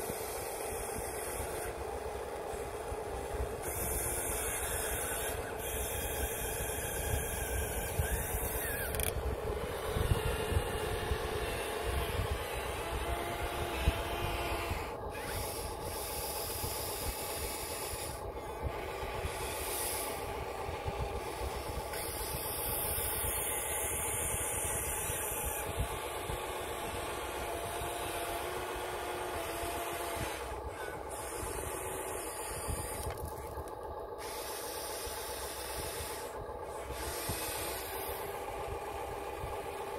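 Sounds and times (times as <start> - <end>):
small electric motors whining: 0.0 - 39.9.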